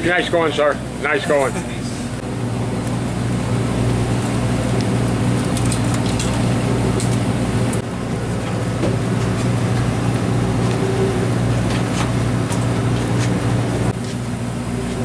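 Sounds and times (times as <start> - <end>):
low mechanical hum of boat machinery: 0.0 - 15.0.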